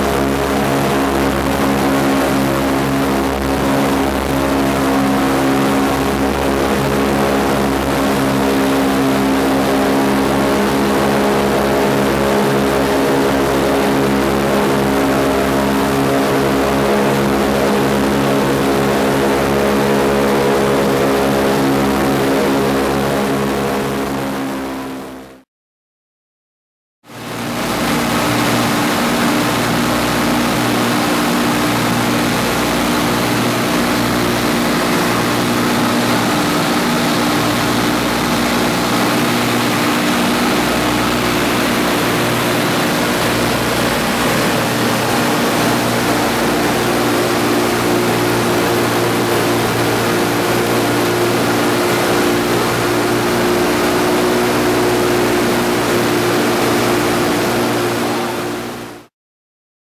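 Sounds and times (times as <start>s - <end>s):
radial aircraft engines droning: 0.0s - 25.4s, 27.1s - 59.0s.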